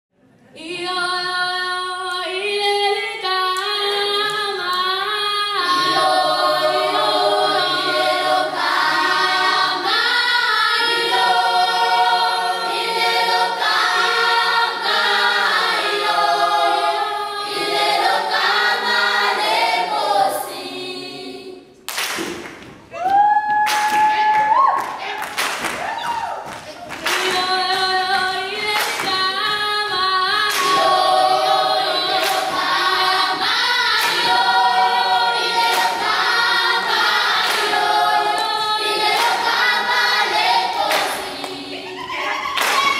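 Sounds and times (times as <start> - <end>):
children's choir singing a cappella: 0.4 - 21.8, 27.0 - 42.9.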